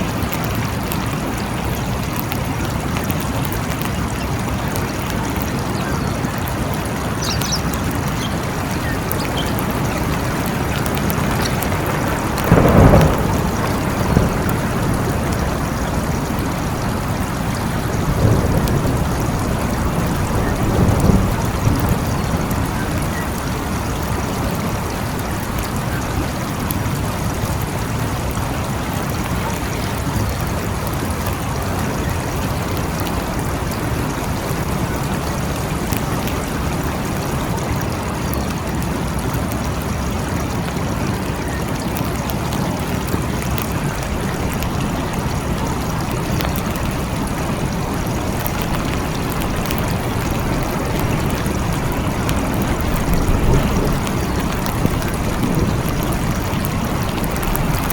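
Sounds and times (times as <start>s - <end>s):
heavy rain hissing: 0.0s - 57.9s
raindrops ticking: 0.0s - 57.9s.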